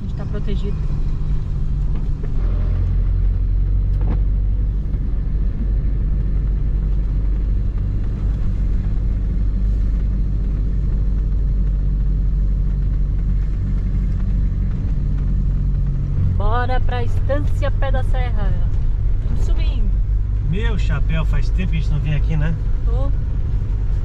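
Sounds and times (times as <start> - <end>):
engine and road noise rumble: 0.0 - 24.0.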